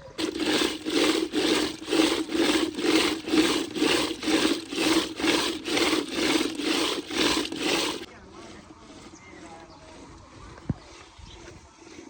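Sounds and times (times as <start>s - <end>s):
rhythmic rasping rubbing strokes: 0.0s - 12.0s.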